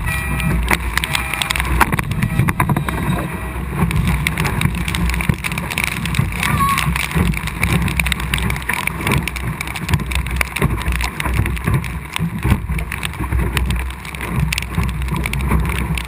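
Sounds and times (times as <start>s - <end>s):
water slapping against hull: 0.0s - 16.0s
wind buffeting microphone: 0.0s - 16.0s.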